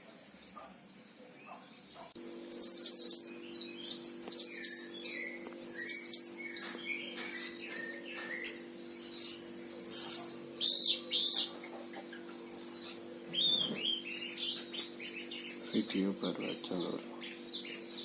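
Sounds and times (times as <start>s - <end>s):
low electrical hum: 0.0s - 18.0s
songbird whistling: 0.0s - 18.0s.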